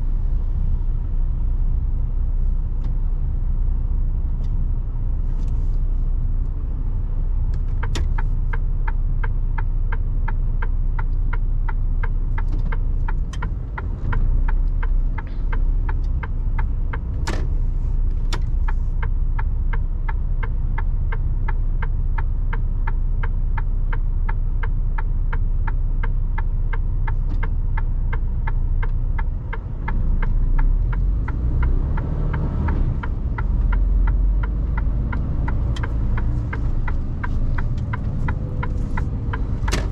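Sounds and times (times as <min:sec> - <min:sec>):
truck engine and road noise: 0:00.0 - 0:39.9
turn signal ticking: 0:06.4 - 0:39.9.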